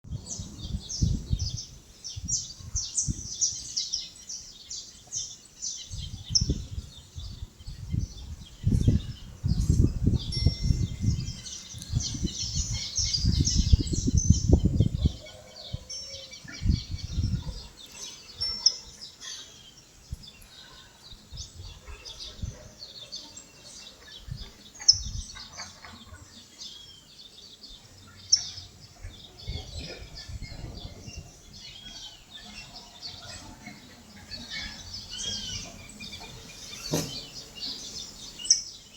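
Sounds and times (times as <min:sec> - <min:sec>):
wind buffeting on microphone: 0:00.0 - 0:04.0, 0:05.7 - 0:18.5, 0:20.0 - 0:22.9, 0:24.1 - 0:26.3, 0:28.7 - 0:38.5
small birds chirping: 0:00.1 - 0:38.9.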